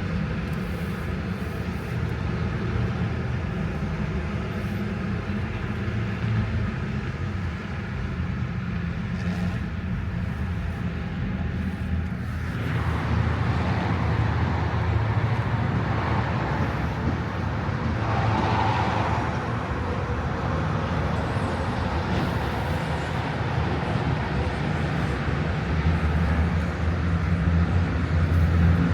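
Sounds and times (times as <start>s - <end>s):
rushing road noise: 0.0s - 28.9s
vehicle engine and tyres rumbling: 0.0s - 28.9s.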